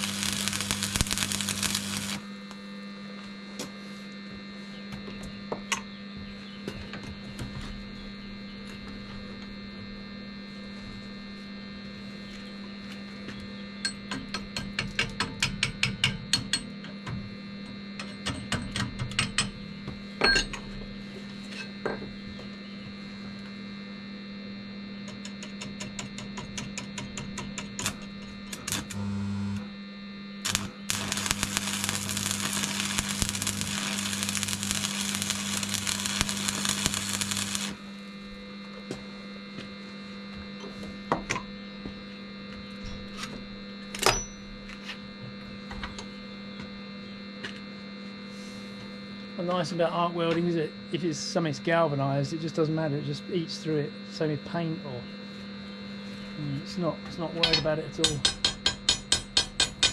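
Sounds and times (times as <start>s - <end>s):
arc welding crackle and hiss: 0.0s - 2.8s, 8.2s - 39.0s, 42.4s - 59.9s
arc welder humming: 0.0s - 59.9s.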